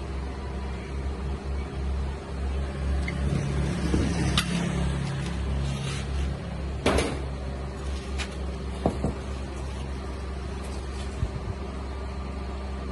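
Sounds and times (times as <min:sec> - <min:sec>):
low machine hum: 0:00.0 - 0:12.9.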